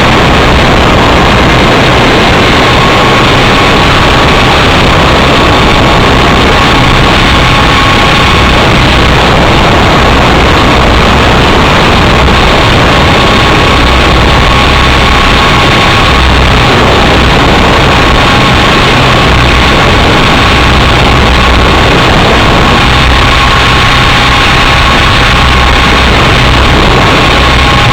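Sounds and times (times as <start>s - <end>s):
faint steady whine: 0.0s - 27.9s
helicopter rotor noise: 0.0s - 27.9s.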